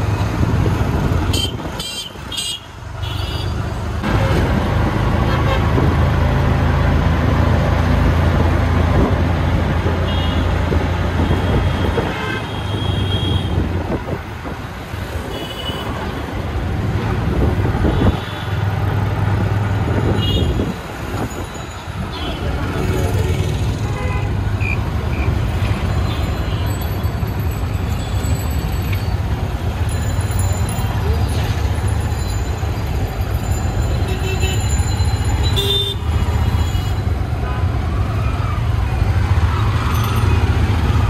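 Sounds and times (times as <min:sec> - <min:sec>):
vehicle engines running: 0:00.0 - 0:41.0.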